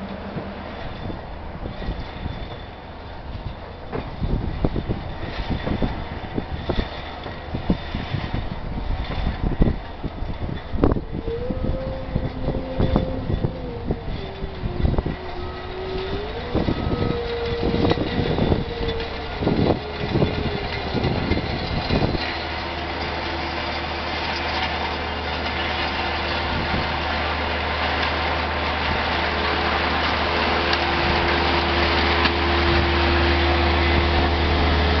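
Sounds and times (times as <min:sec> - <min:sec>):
road roller running: 0:00.0 - 0:35.0
wind buffeting microphone: 0:00.0 - 0:35.0.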